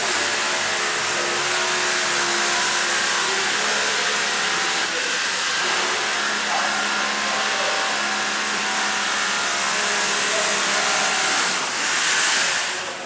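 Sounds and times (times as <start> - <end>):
power tool motor whirring: 0.0 - 13.0.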